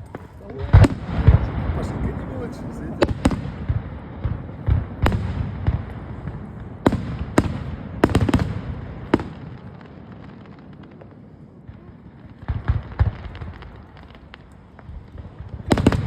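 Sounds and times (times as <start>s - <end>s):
fireworks bangs: 0.0s - 16.0s
low rumbling echo: 0.0s - 16.0s.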